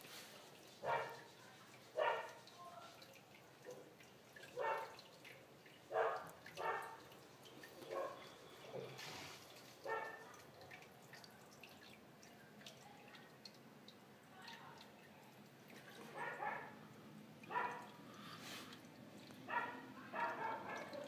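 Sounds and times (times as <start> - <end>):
aquarium water dripping: 0.0 - 21.0.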